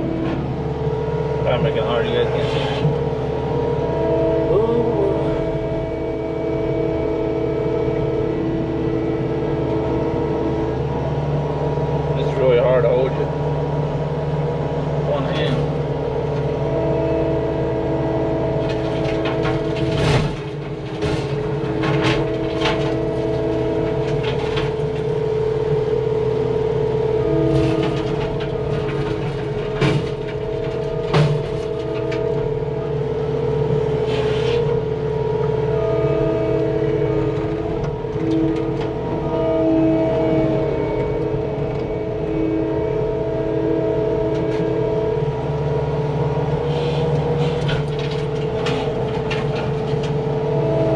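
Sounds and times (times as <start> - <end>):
diesel engine running: 0.0 - 50.9
hydraulic hum: 0.0 - 50.9.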